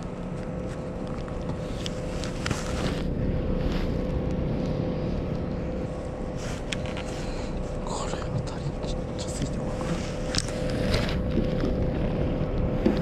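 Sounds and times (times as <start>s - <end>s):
motor rumbling: 0.0s - 13.0s.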